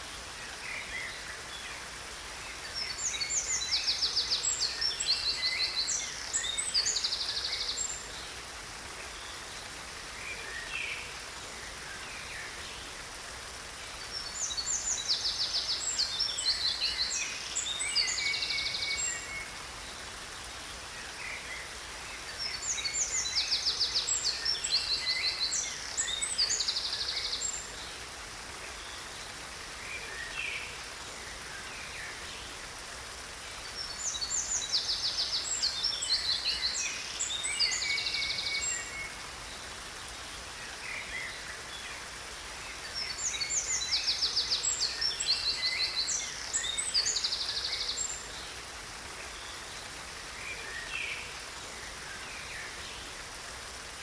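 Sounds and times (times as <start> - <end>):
waterfall hiss: 0.0 - 54.0.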